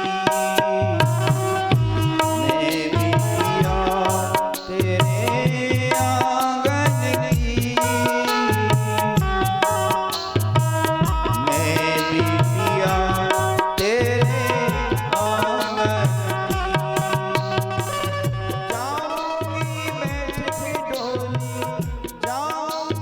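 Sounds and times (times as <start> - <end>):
hand drum rhythm: 0.0 - 23.0.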